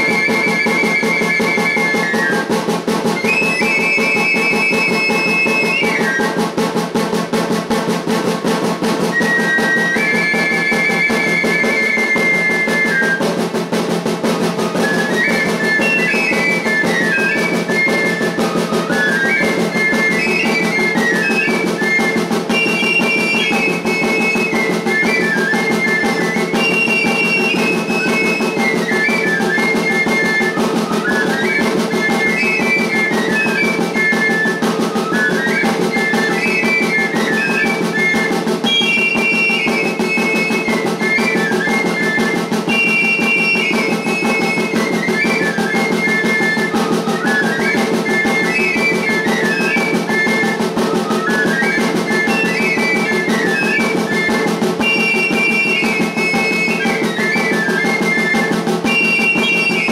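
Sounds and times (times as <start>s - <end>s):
pipes playing high melody: 0.0s - 7.1s, 8.8s - 59.9s
hand drums beaten rapidly: 0.0s - 59.9s.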